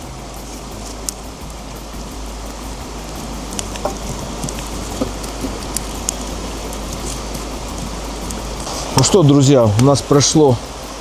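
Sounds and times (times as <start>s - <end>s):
campfire crackling and popping: 0.0s - 11.0s
mountain stream rushing: 0.0s - 11.0s.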